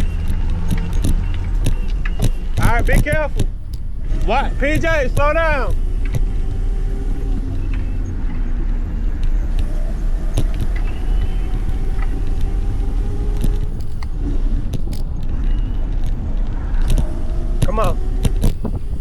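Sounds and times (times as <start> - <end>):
electric motor whine: 0.0 - 19.0
low rumble of wind: 0.0 - 19.0
road noise: 0.0 - 19.0
scattered clicks: 0.0 - 19.0.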